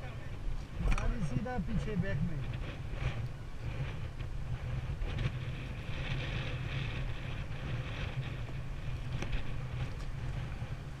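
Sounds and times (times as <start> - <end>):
low rumble: 0.0 - 11.0
wind buffeting microphone: 0.0 - 11.0.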